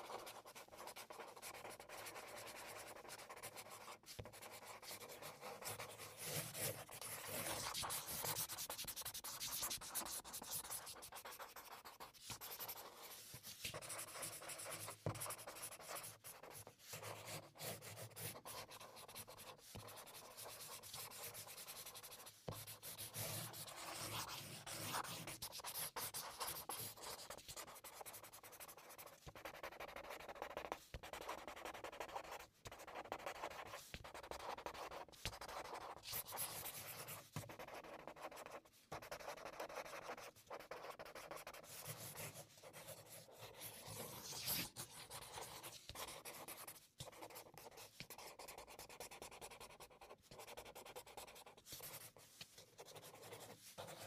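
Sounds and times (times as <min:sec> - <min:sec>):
marker scratching on paper: 0:00.0 - 0:54.0
marker tapping: 0:00.0 - 0:54.0.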